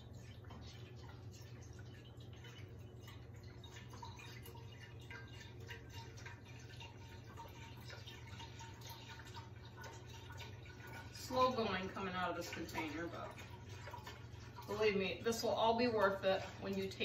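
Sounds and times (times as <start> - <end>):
broth trickling into metal pot: 0.0 - 17.0.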